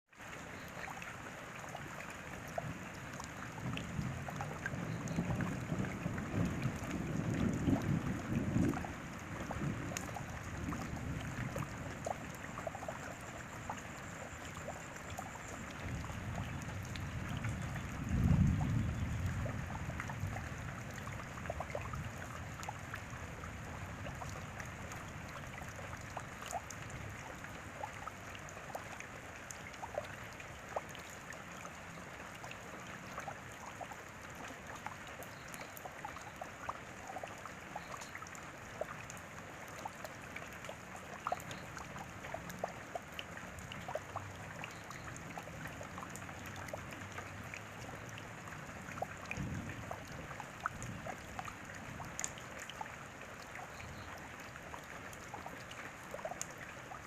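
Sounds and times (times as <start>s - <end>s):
rain drops pattering: 0.1s - 57.0s.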